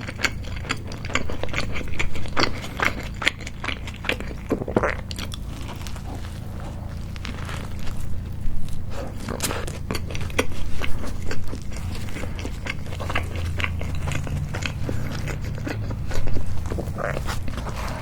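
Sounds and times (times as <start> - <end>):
biting and chewing: 0.0 - 18.0
toasted bun crunching: 0.0 - 18.0.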